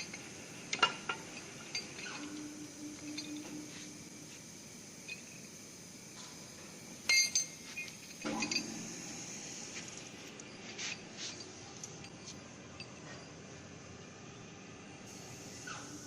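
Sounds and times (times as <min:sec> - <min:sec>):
steady hiss: 0:00.0 - 0:12.7, 0:13.6 - 0:16.0.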